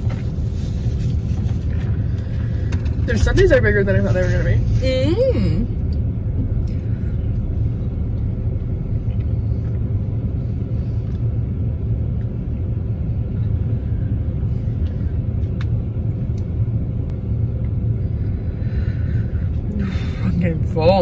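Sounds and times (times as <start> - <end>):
car idling: 0.0 - 21.0.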